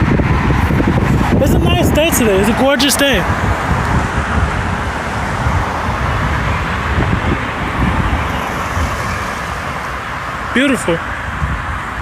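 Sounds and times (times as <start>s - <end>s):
road traffic rumble: 0.0s - 12.0s
wind buffeting microphone: 0.0s - 12.0s.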